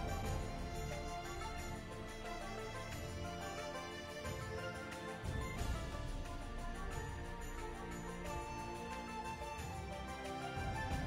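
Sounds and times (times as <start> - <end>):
sustained instrumental music: 0.0 - 11.0.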